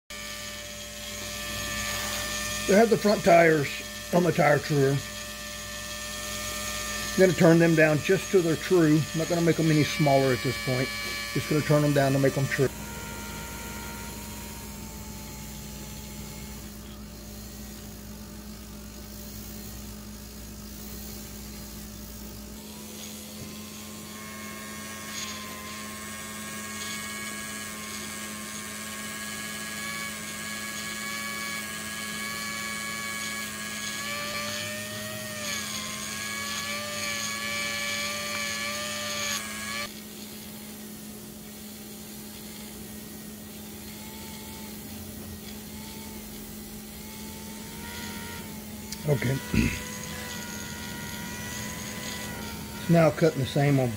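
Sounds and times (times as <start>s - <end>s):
high whine with grinding hiss: 0.1s - 53.9s
small electric motor running: 0.1s - 53.9s.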